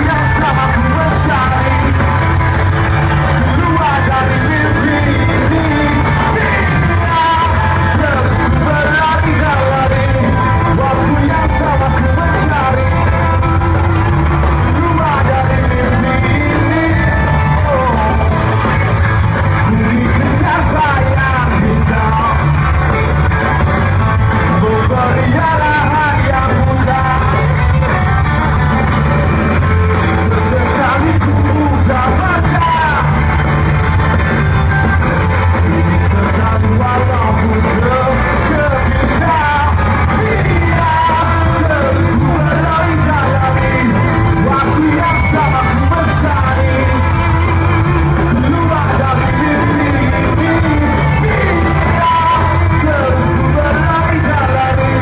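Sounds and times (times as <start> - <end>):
bass guitar: 0.0 - 55.0
drums: 0.0 - 55.0
electric guitars: 0.0 - 55.0
man singing lead vocal: 0.0 - 55.0.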